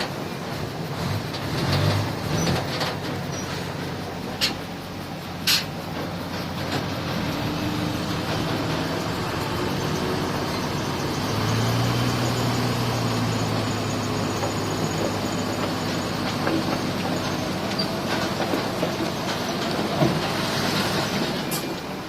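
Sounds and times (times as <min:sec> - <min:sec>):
diesel engine drone: 0:00.0 - 0:22.0
mechanical clatter and rumble: 0:00.0 - 0:22.0.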